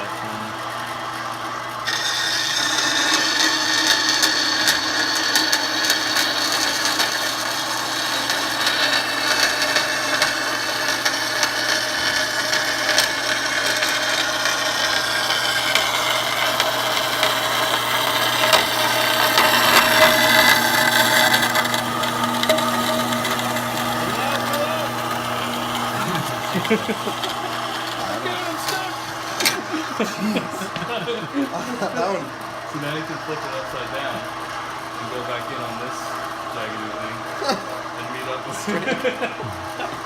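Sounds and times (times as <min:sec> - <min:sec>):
band saw running: 0:00.0 - 0:40.0
saw blade cutting: 0:01.8 - 0:40.0.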